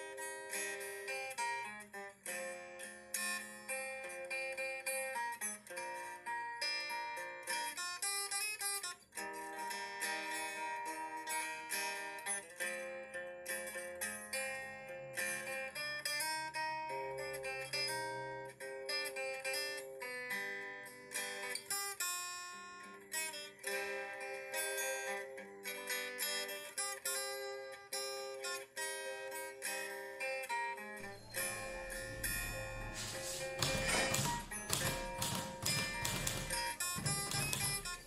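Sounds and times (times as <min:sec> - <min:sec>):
plucked guitar music: 0:00.0 - 0:38.0.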